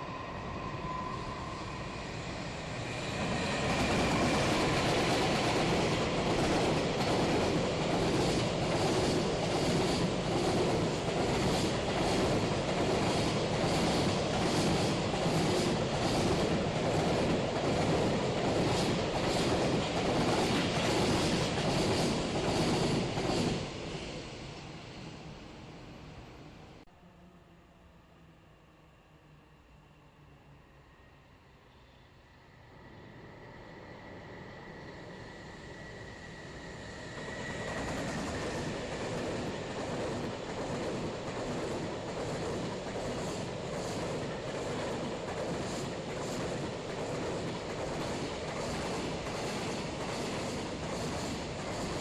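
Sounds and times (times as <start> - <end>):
freight train rumbling past: 0.0 - 28.4, 32.5 - 52.0.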